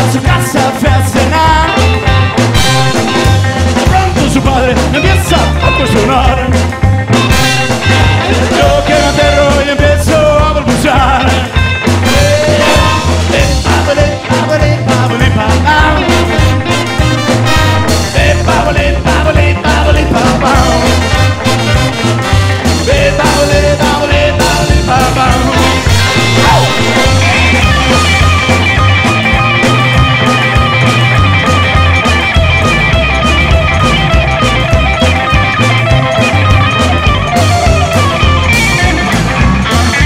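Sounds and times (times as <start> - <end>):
bass line: 0.0 - 40.0
electric guitar: 0.0 - 40.0
rockabilly band playing: 0.0 - 40.0
steady drum beat: 0.0 - 40.0.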